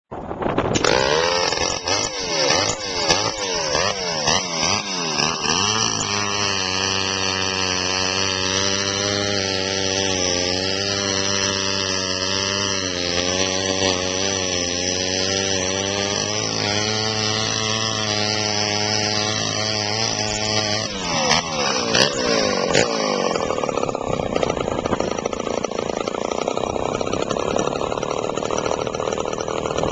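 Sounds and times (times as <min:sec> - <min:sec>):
chainsaw revving and idling: 0:00.7 - 0:29.9.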